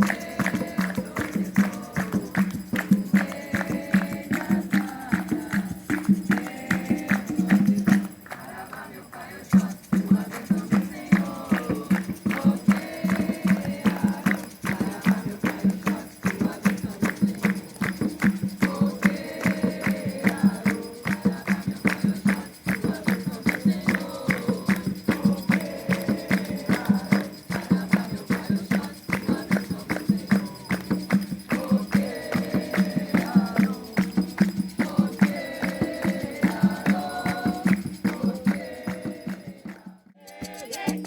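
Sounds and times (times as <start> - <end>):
group singing: 0.0 - 41.0
hand percussion beat: 0.0 - 41.0.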